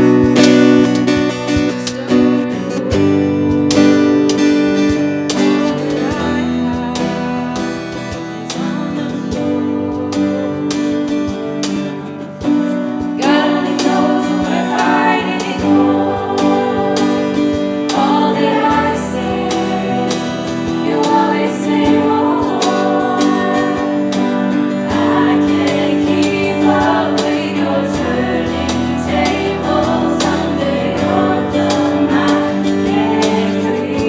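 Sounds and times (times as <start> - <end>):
choir singing: 0.0 - 34.0
guitar playing: 0.0 - 34.0.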